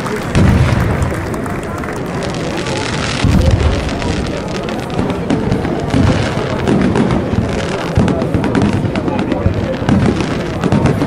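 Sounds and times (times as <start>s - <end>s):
firework booms: 0.0s - 11.0s
firework crackling pops: 0.0s - 11.0s.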